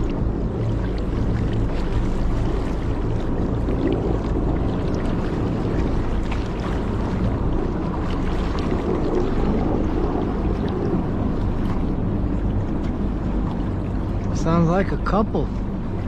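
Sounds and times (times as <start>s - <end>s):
wind noise on microphone: 0.0s - 14.4s
low engine rumble: 0.0s - 16.0s.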